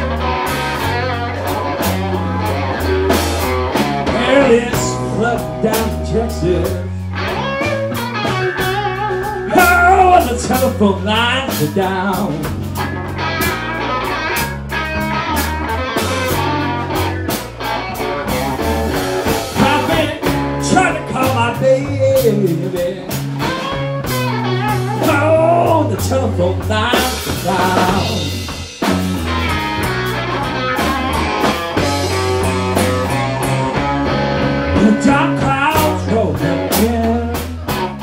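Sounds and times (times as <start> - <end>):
blues band playing: 0.0 - 38.0
electric guitar bending fills: 0.0 - 38.0.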